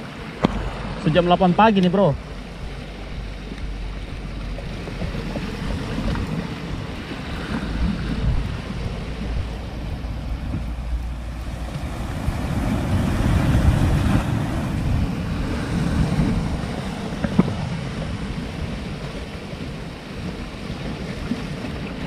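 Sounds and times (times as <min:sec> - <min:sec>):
waves washing over rocks: 0:00.0 - 0:22.0
wind buffeting microphone: 0:00.0 - 0:22.0.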